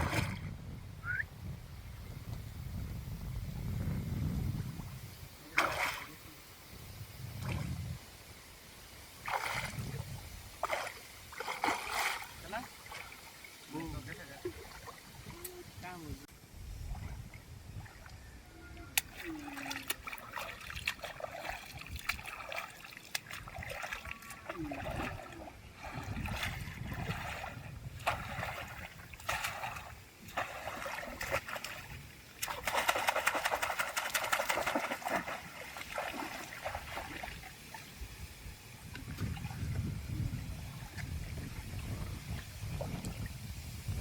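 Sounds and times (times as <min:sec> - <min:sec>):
water splashing and trickling: 0:00.0 - 0:00.6, 0:03.6 - 0:44.0.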